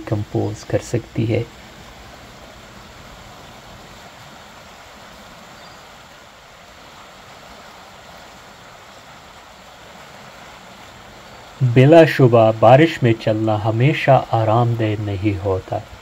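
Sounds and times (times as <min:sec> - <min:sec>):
fast-flowing creek rushing: 0:00.0 - 0:16.0.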